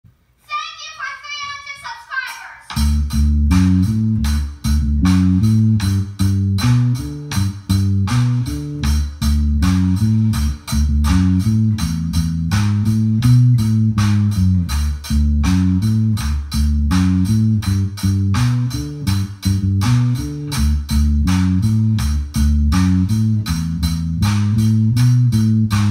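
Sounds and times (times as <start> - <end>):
drum and cymbal hits: 2.7 - 25.9
electric bass line: 2.8 - 25.9.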